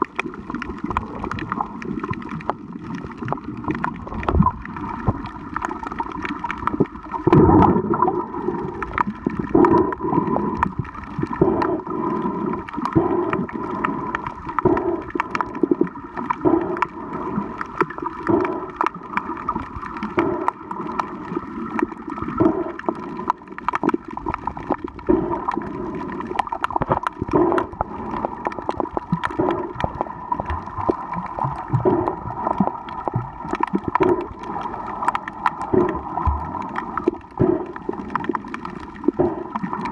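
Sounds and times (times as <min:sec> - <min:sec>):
crackle of sharp clicks: 0:00.0 - 0:08.0, 0:12.6 - 0:16.9, 0:17.6 - 0:39.9
low water surges: 0:00.0 - 0:39.9
muffled water movement: 0:00.0 - 0:39.9.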